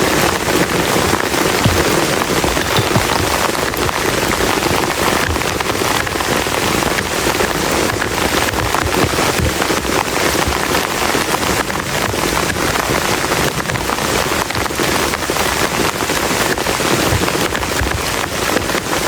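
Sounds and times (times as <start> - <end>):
heavy rain on plastic tarp: 0.0 - 19.0.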